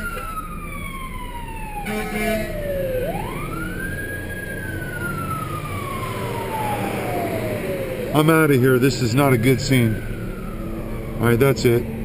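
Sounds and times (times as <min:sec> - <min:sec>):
emergency vehicle siren wailing: 0:00.0 - 0:12.0
low rumble of traffic: 0:00.0 - 0:12.0.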